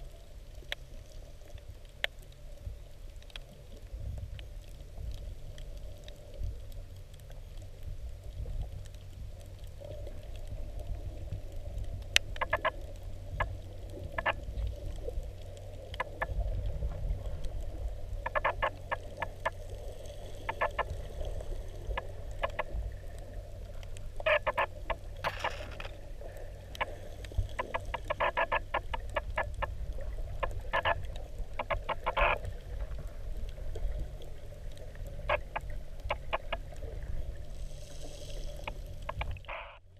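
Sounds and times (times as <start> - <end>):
low underwater rumble: 0.0 - 39.9.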